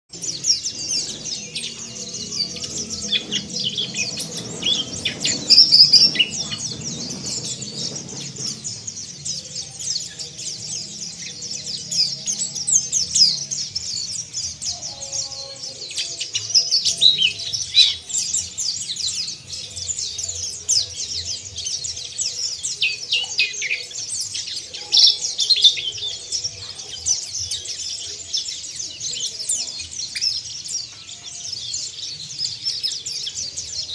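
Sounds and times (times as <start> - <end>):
small birds twittering: 0.1 - 33.9.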